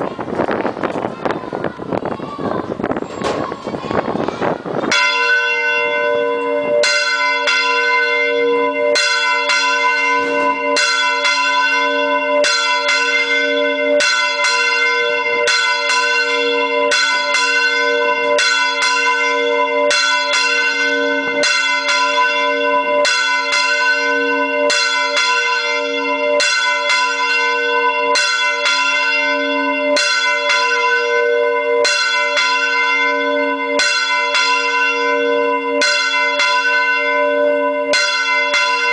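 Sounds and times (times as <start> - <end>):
church bell ringing: 4.8 - 38.9.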